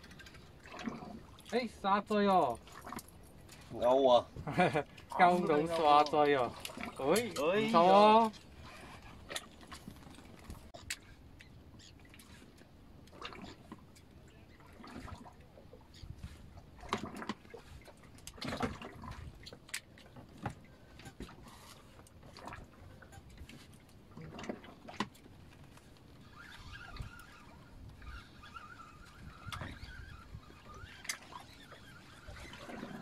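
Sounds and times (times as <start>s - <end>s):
water lapping against boat hull: 0.0s - 33.0s.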